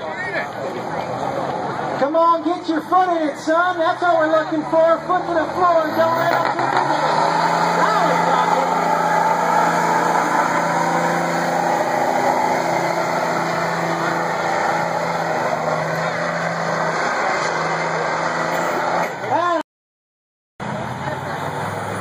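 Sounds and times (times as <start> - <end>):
truck engine at full throttle: 0.0 - 19.6, 20.6 - 22.0.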